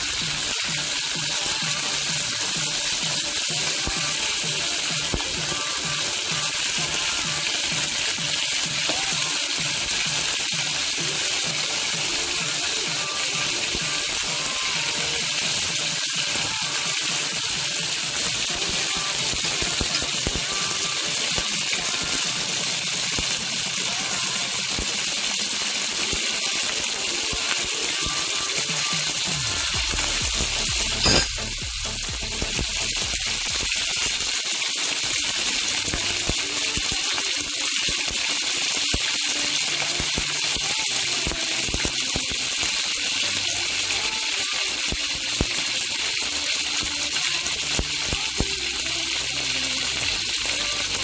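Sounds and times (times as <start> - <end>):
chicken wings sizzling in oil: 0.0 - 51.0.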